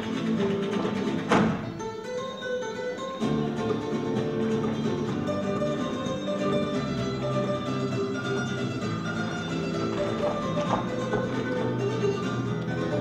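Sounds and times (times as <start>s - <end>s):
latin music with plucked guitar: 0.0s - 13.0s.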